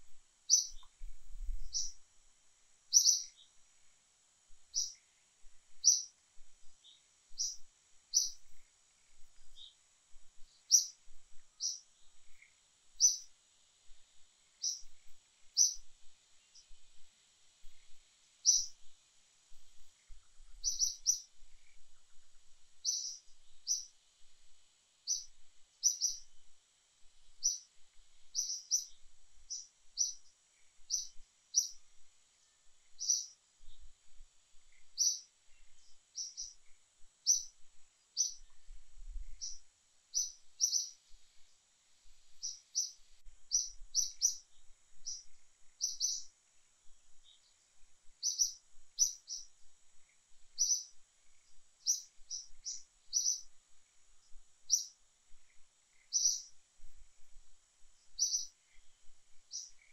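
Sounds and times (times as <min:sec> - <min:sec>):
small bird chirping: 0:00.0 - 0:02.1, 0:02.8 - 0:59.9
faint high hiss: 0:00.0 - 0:59.9.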